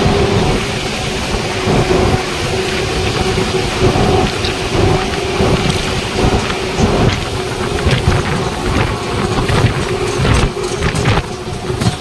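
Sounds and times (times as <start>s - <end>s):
engine hum: 0.0s - 12.0s
truck tyre noise: 0.0s - 12.0s
wind buffeting microphone: 0.0s - 12.0s.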